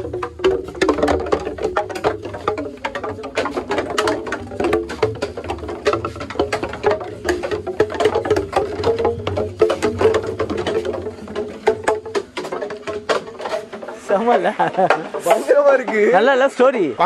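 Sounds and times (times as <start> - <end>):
hollow bamboo poles clattering: 0.0 - 17.0.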